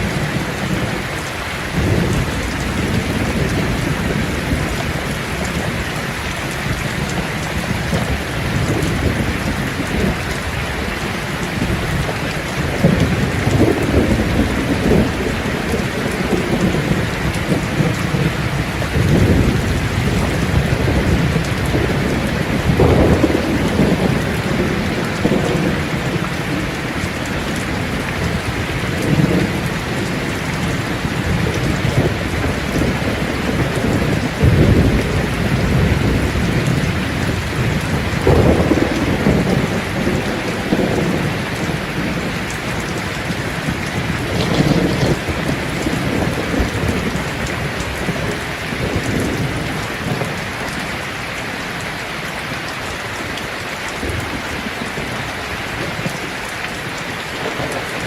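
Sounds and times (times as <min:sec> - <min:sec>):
thunder rumbling: 0:00.0 - 0:52.4, 0:53.2 - 0:58.0
heavy rain: 0:00.0 - 0:58.0.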